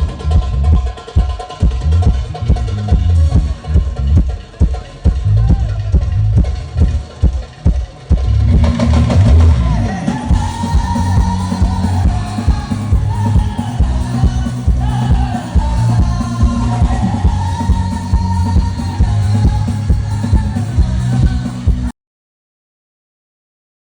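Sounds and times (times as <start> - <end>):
heavy pulsing bass beat: 0.0 - 21.9
loud music with singing: 0.0 - 21.9.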